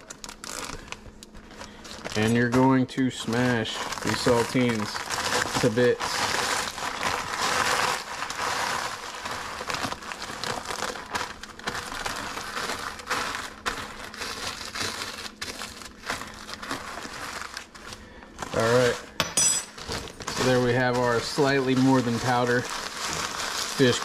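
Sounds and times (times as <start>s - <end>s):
crackers crunching: 0.0s - 24.0s
plastic bag crinkling: 0.0s - 24.0s.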